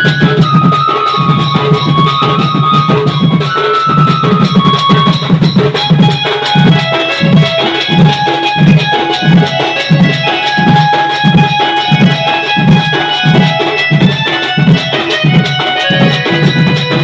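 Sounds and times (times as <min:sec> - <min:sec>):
hand drums beating: 0:00.0 - 0:17.0
sustained melody line: 0:00.0 - 0:17.0.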